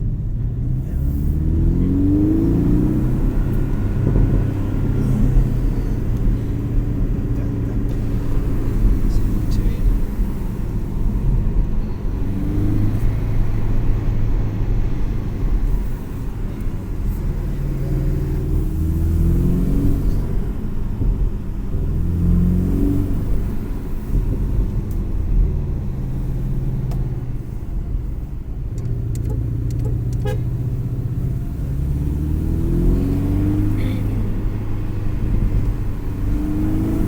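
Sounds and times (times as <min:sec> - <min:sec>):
car engine accelerating: 0:00.0 - 0:37.0.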